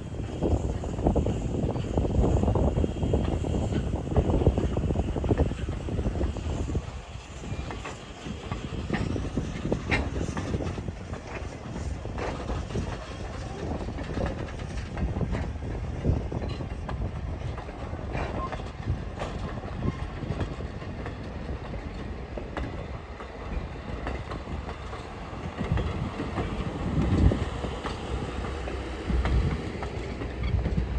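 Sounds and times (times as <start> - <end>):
train rumbling along track: 0.0 - 30.9
wheels clicking over rail joints: 0.2 - 30.9.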